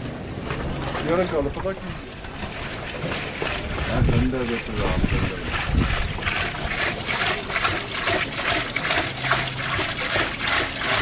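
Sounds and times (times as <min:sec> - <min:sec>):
acid solution trickling: 0:00.2 - 0:11.0.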